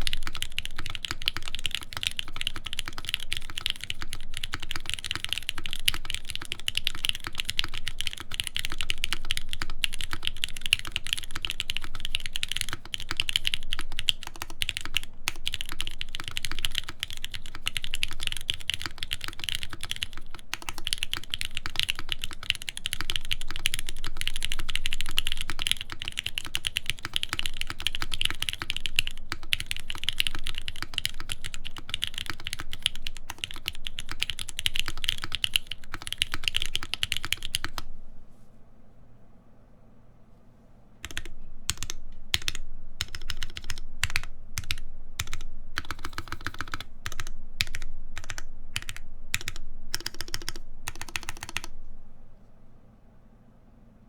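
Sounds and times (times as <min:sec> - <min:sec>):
mechanical keyboard typing clacks: 0:00.0 - 0:37.8, 0:41.0 - 0:51.7.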